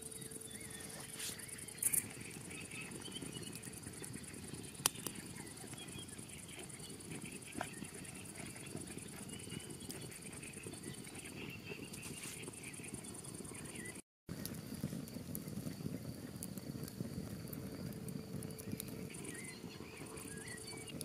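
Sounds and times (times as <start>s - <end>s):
campfire crackling and popping: 0.0s - 21.0s
insects chirring: 0.0s - 21.0s.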